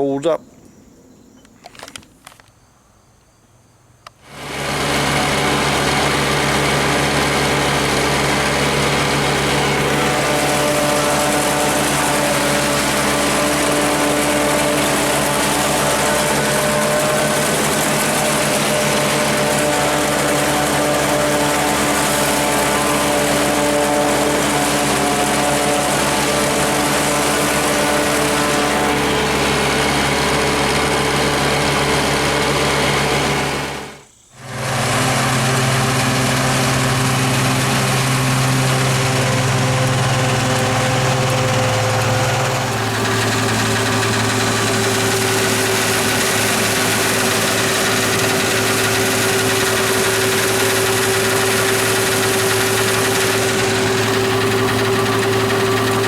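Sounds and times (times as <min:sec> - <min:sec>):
tractor engine running: 0:04.0 - 0:56.0.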